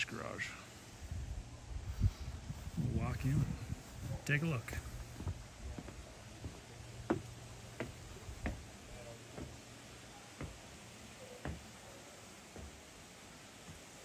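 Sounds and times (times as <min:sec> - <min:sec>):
footsteps on porch steps: 0:02.1 - 0:14.0.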